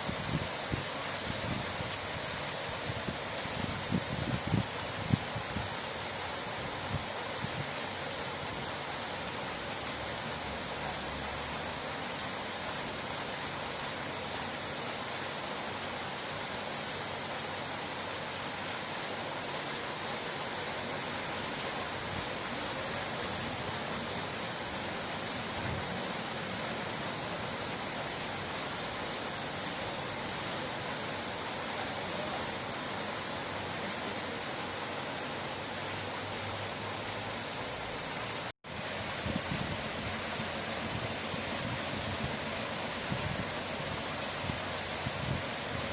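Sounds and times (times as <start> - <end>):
running water: 0.0 - 45.9.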